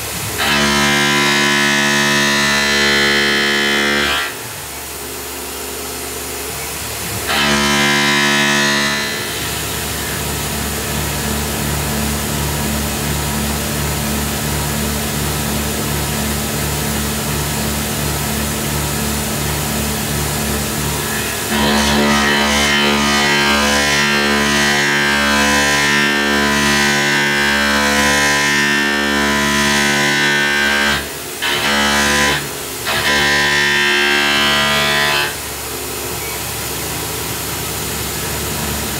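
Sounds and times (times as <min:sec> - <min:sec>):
mill cutting aluminum: 0:00.0 - 0:38.9.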